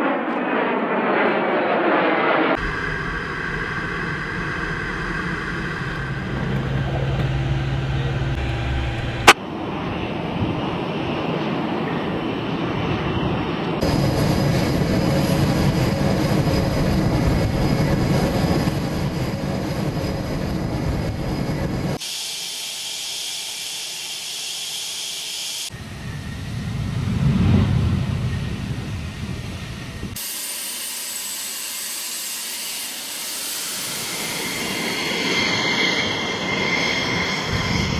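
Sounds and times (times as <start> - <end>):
high-pitched engine whine: 0.0 - 37.9
jet engine roar: 0.0 - 37.9.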